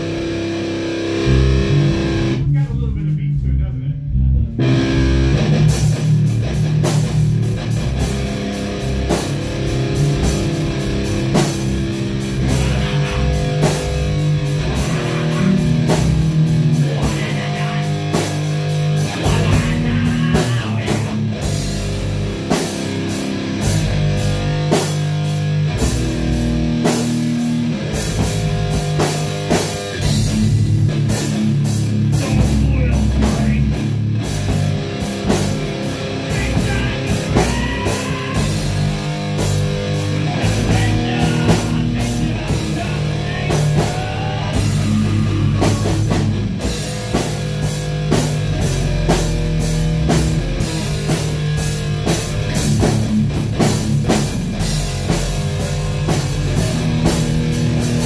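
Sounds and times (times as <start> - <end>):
electric guitar: 0.0 - 2.5, 4.1 - 58.0
drum kit playing: 0.0 - 58.0.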